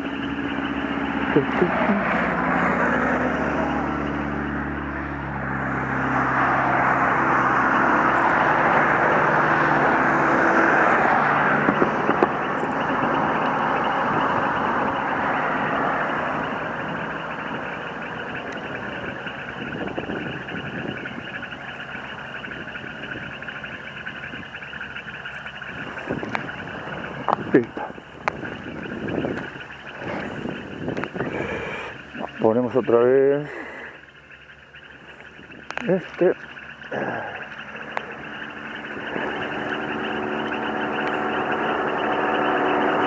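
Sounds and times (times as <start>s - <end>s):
frogs croaking: 0.0s - 43.0s
vehicle engine hum: 0.0s - 43.0s.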